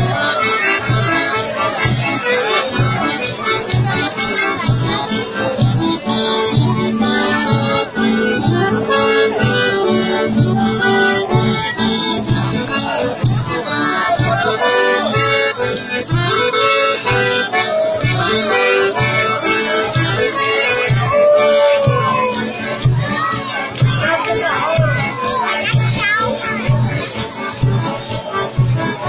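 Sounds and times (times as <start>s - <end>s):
accordion folk dance music: 0.0s - 29.0s
steady percussion beat: 0.0s - 29.0s.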